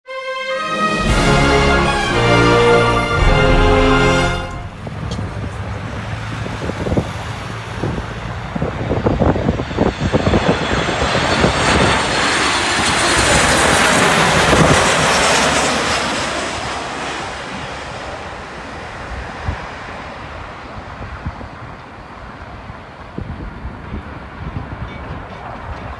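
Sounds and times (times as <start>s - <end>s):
jet airliner passing: 0.1s - 23.0s.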